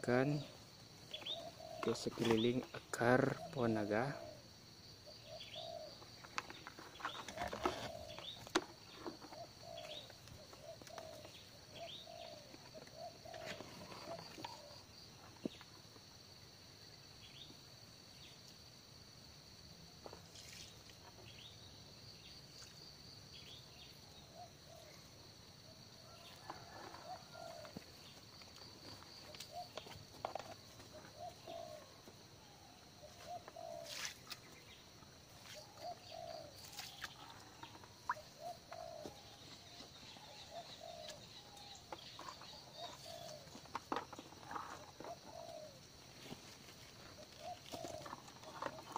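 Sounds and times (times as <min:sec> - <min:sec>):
birds chirping and calling: 0:00.0 - 0:15.8, 0:20.1 - 0:48.9.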